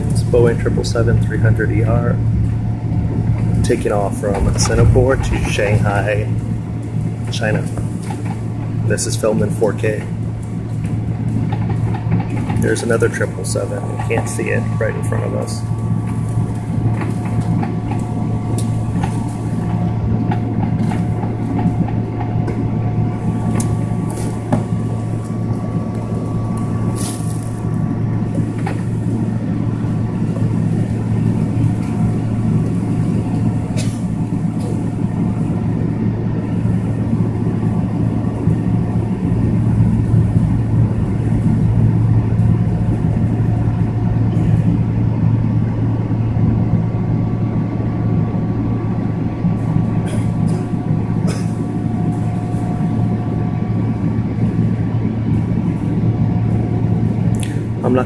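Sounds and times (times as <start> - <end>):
aircraft engines humming: 0.0 - 58.0
clicks and knocks of rolling aircraft: 0.0 - 58.0
steady whining tones: 0.0 - 58.0.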